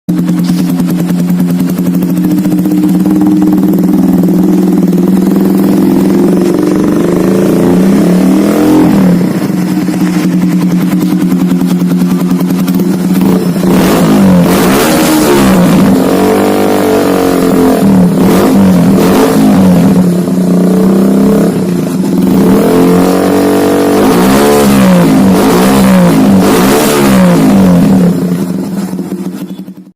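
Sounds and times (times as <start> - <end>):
motorcycle engine revving: 0.1 - 29.9.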